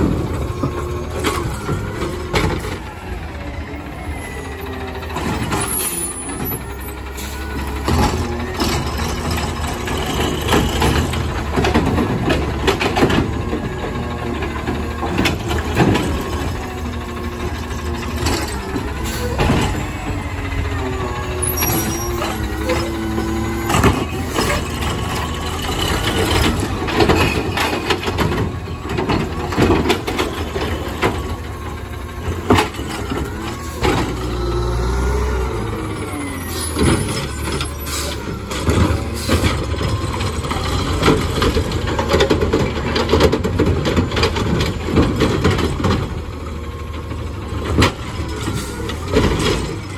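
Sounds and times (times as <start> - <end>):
carts clunking against hopper: 0.0 - 49.9
garbage truck engine running: 0.0 - 49.9
hydraulics whining: 0.0 - 49.9.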